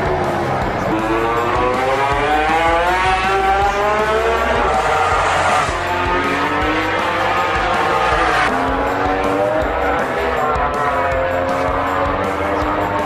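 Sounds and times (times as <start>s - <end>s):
racing motorcycle engine revving: 0.0s - 13.0s.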